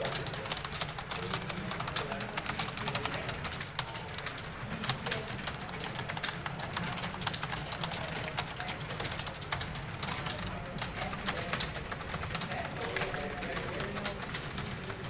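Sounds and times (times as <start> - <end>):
keyboards clattering: 0.0 - 15.0.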